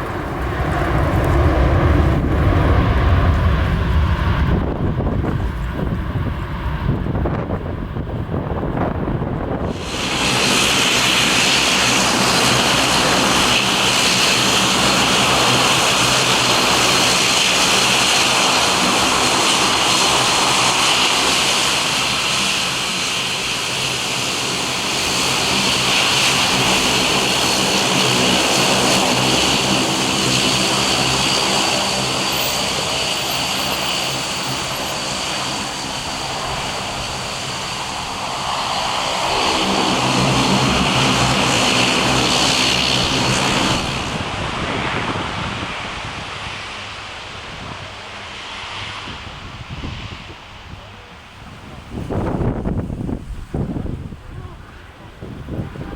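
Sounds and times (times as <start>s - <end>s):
aircraft engines running: 0.0s - 55.9s.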